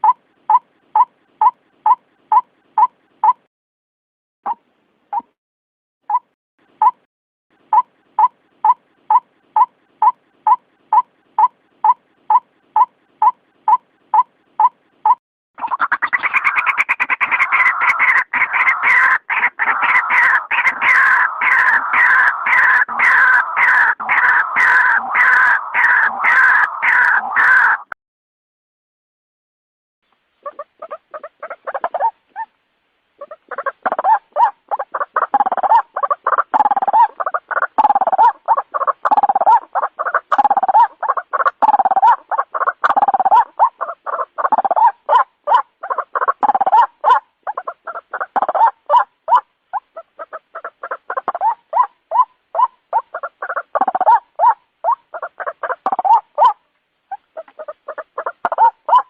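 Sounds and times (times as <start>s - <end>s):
waterhen calling rapid notes: 7.6s - 28.0s, 30.4s - 32.6s, 33.2s - 59.0s.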